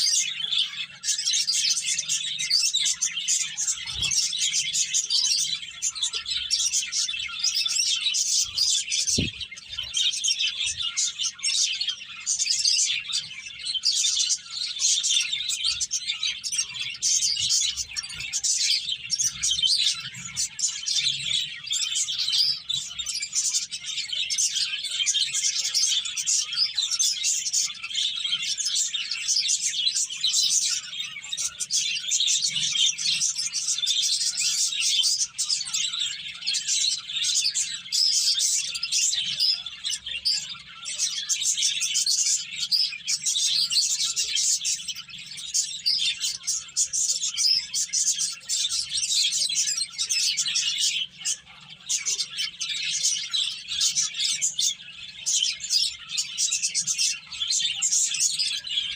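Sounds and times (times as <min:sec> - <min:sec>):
finches chirping: 0:00.0 - 0:58.9.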